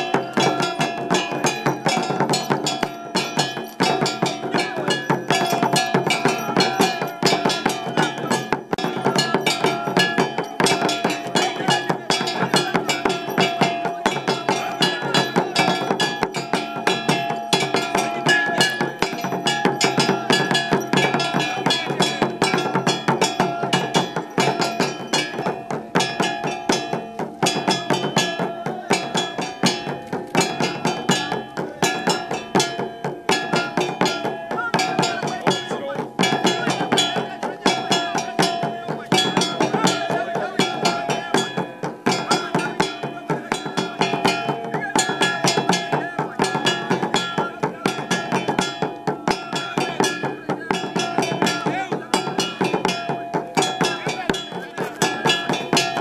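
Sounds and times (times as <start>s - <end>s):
cowbell-like metal strokes: 0.0s - 56.0s
fast dense drumming: 0.0s - 56.0s.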